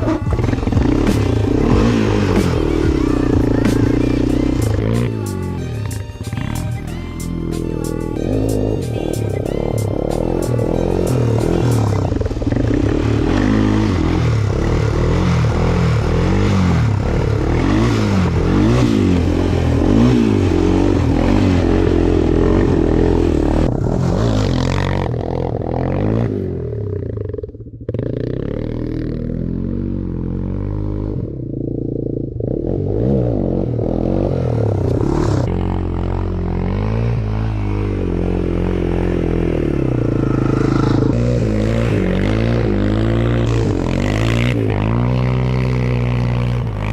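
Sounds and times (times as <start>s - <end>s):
small off-road engine revving: 0.0s - 46.9s.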